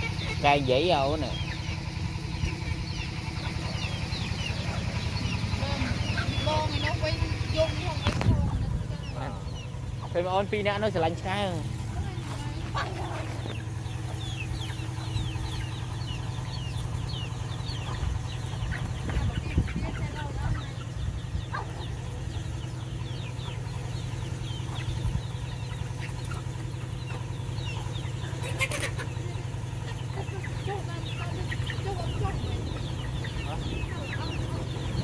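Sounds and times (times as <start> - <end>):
steady low hum: 0.0 - 35.0
young chickens peeping and clucking: 0.0 - 35.0.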